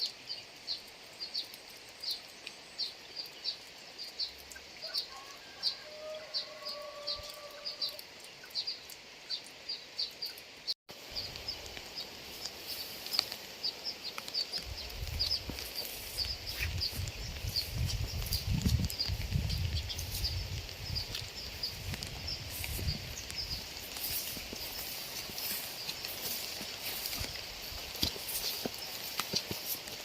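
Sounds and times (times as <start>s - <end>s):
rain hiss: 0.0s - 30.0s.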